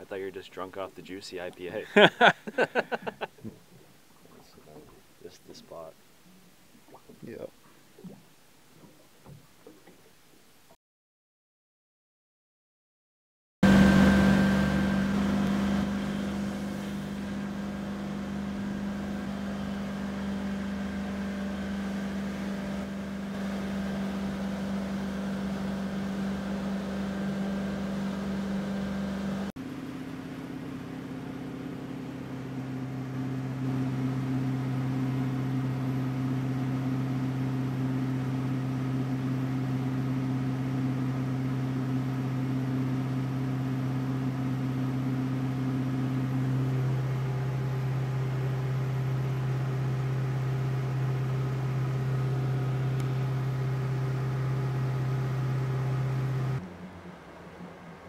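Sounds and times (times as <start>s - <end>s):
motorboat engine drone: 0.0s - 10.7s, 13.6s - 58.0s.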